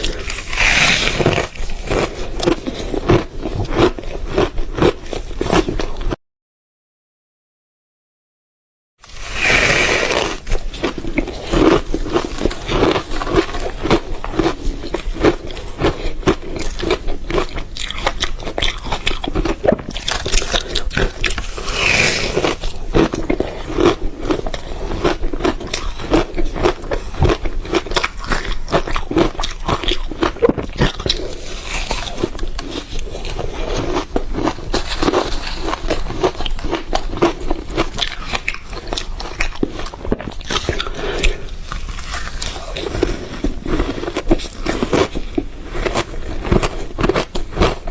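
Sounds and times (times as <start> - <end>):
ice crunching in mouth: 0.0 - 6.1, 9.0 - 47.9.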